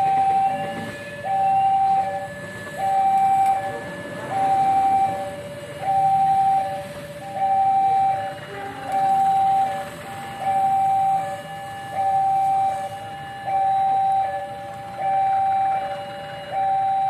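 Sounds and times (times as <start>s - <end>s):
level crossing two-tone alarm: 0.0s - 17.0s.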